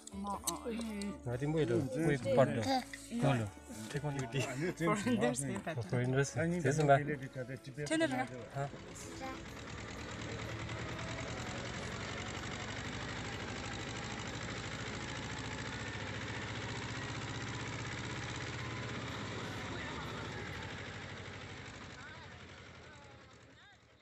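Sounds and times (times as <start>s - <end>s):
tractor engine chugging: 0.0s - 24.0s.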